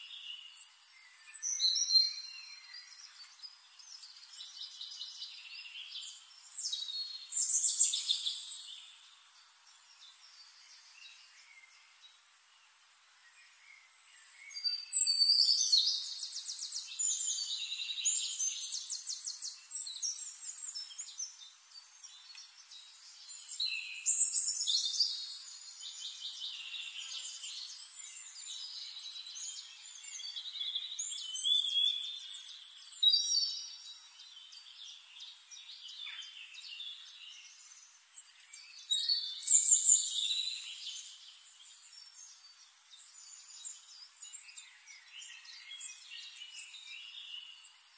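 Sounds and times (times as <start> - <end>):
faint bird chirps: 0.0 - 47.9.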